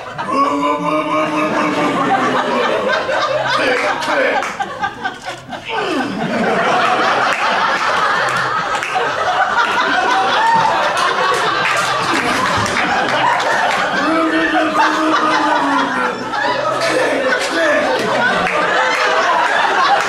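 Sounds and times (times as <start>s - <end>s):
audience laughing: 0.0s - 20.0s.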